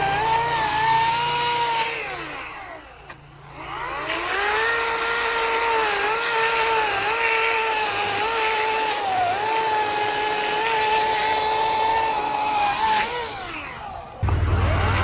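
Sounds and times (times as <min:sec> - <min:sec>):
battery chainsaw whining: 0:00.0 - 0:15.0.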